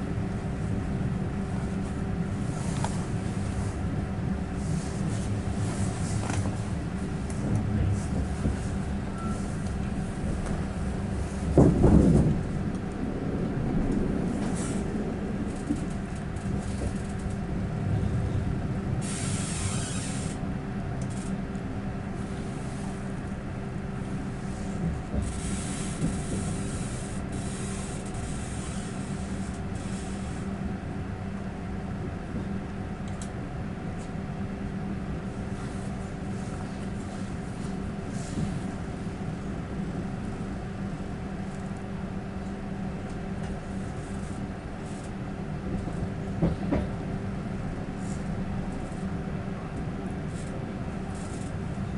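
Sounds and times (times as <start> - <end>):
train rumble and hum: 0.0 - 51.9.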